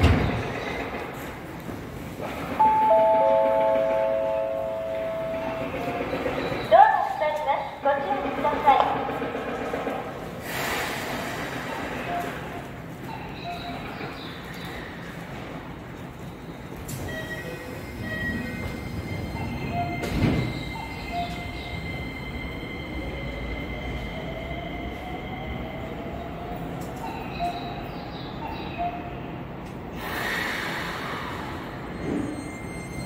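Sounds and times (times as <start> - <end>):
electric train whine: 0.4 - 33.0.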